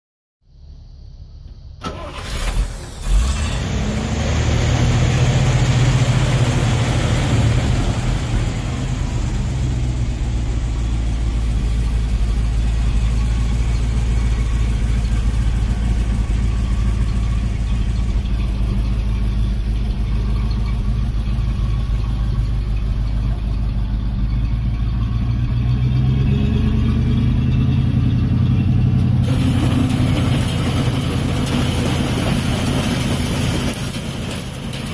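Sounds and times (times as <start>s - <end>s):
truck engine cranking and idling: 0.5s - 34.9s.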